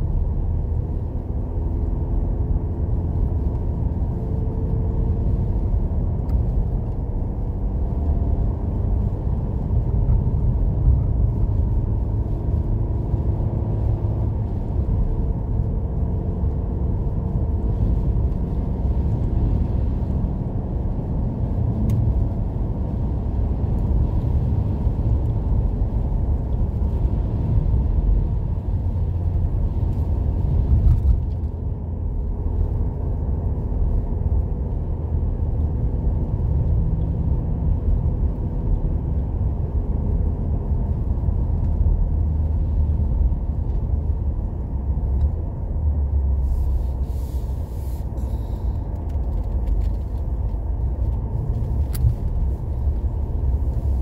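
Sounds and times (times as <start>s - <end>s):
car interior driving rumble: 0.0s - 54.0s.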